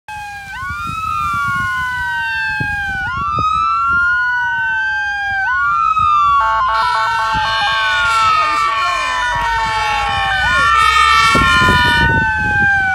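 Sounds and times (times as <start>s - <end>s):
siren with switching tones: 0.1s - 12.9s
wailing emergency sirens: 0.1s - 12.9s.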